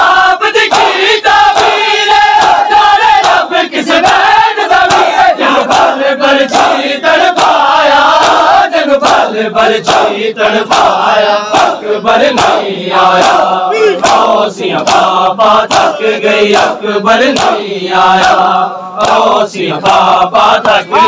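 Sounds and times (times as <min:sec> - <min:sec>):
men chanting in unison: 0:00.0 - 0:21.0
palms slapping chests: 0:00.6 - 0:21.0.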